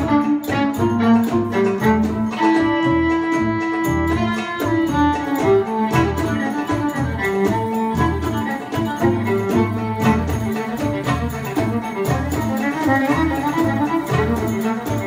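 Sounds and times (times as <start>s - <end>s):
bass: 0.0s - 15.0s
hand drum strokes: 0.0s - 15.0s
mandolin: 0.0s - 15.0s
violin: 0.0s - 15.0s.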